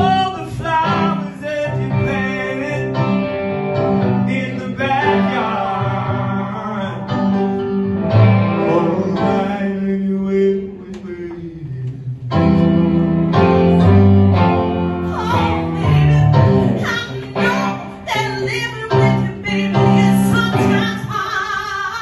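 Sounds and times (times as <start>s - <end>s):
keyboard accompaniment: 0.0s - 22.0s
person singing soul music: 0.0s - 22.0s.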